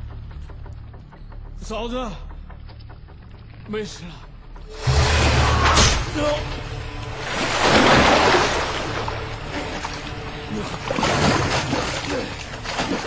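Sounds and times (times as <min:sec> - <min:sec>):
water splashing and sloshing: 0:02.5 - 0:13.0.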